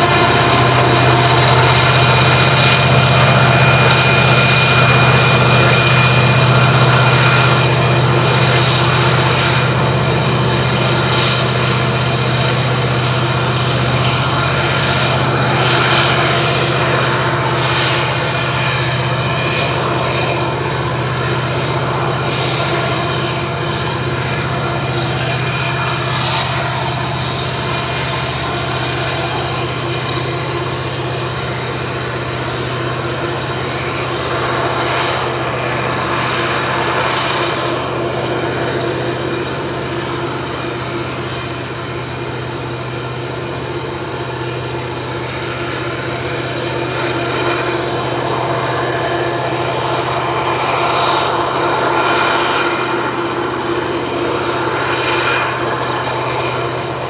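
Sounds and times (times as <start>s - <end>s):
diesel locomotive engine drone: 0.0s - 57.0s
steel wheels rumbling on rails: 0.0s - 57.0s.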